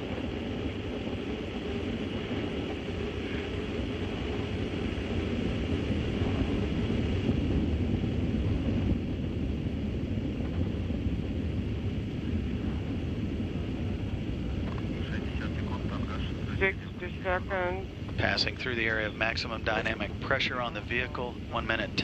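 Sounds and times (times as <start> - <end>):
rocket engines rumbling: 0.0 - 22.0.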